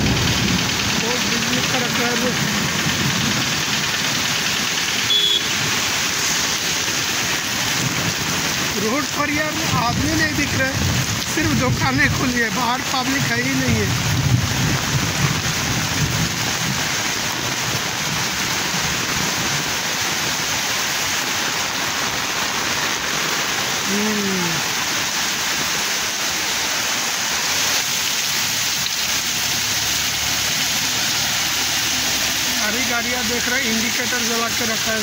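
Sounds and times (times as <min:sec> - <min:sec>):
heavy rain on street: 0:00.0 - 0:35.0.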